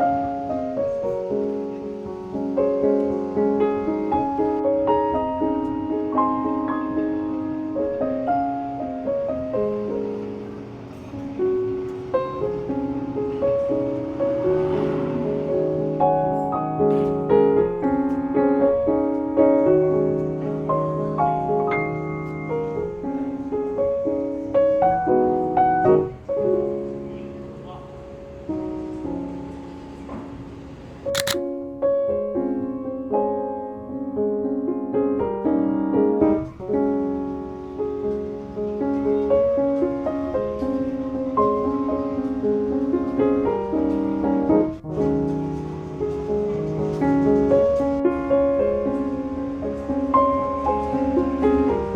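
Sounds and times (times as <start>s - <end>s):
gentle piano melody: 0.0s - 14.5s, 15.3s - 27.4s, 36.0s - 51.9s.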